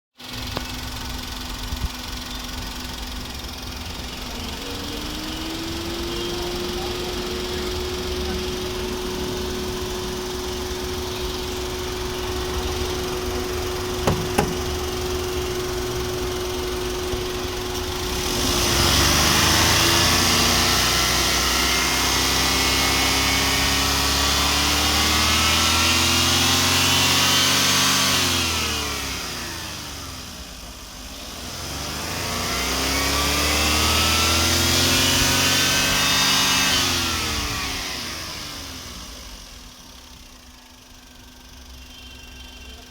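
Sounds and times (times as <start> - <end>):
petrol engine idling and revving: 0.2 - 42.9.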